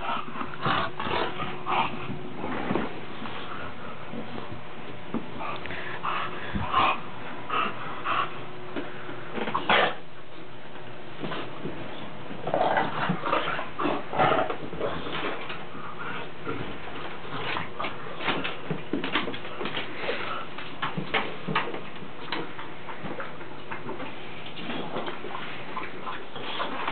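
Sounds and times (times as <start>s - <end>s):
dogs growling and breathing: 0.0s - 26.9s.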